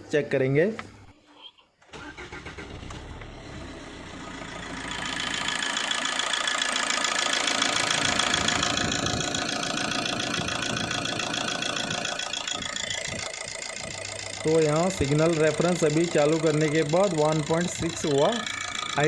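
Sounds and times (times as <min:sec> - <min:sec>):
diesel engine cranking: 0:01.9 - 0:19.0
diesel engine clattering: 0:02.2 - 0:19.0.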